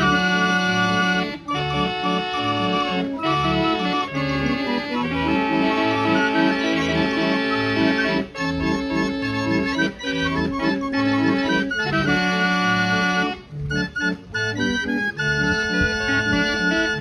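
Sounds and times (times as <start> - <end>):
barrel organ playing a tune: 0.0 - 17.0.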